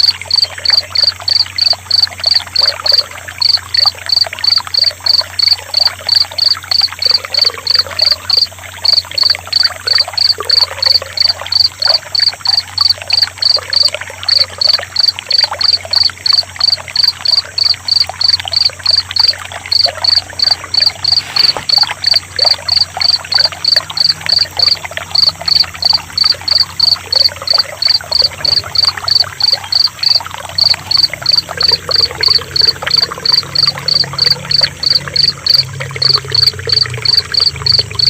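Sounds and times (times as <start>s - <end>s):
cricket chirping: 0.0s - 38.0s
water trickling and splashing: 0.0s - 38.0s.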